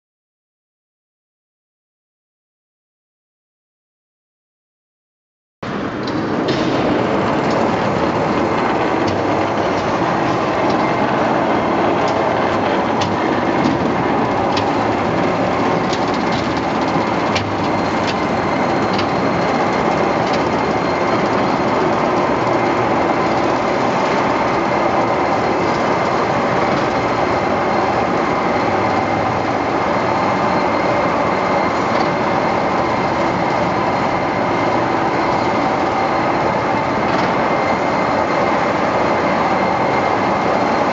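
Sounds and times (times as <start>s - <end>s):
turntable mechanical running noise: 5.8s - 40.9s.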